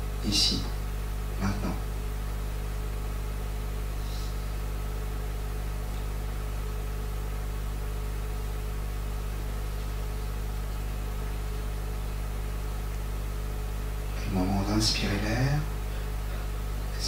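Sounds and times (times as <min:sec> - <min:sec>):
faint microphone hiss: 0:00.0 - 0:17.0
low electrical hum: 0:00.0 - 0:17.0.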